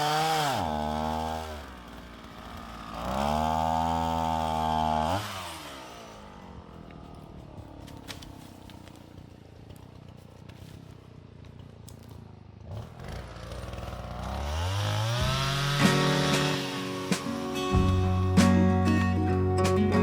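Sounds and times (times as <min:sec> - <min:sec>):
chainsaw engine revving: 0:00.0 - 0:18.9.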